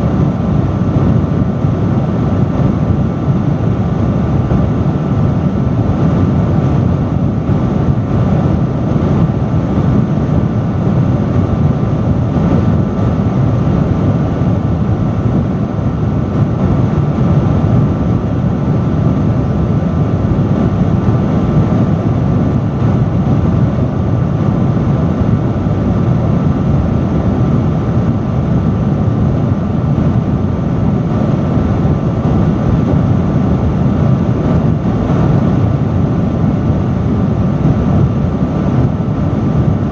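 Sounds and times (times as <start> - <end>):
faint steady hum: 0.0 - 39.9
industrial fan rushing air: 0.0 - 39.9.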